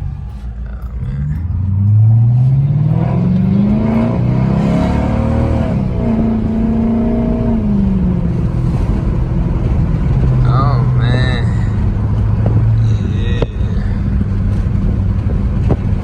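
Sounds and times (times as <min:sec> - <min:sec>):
loud car exhaust accelerating: 0:00.0 - 0:16.0.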